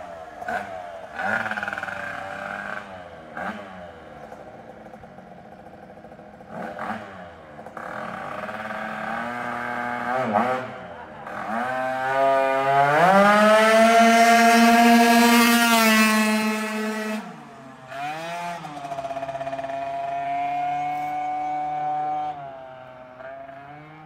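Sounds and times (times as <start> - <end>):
scooter engine accelerating: 0.0 - 24.0.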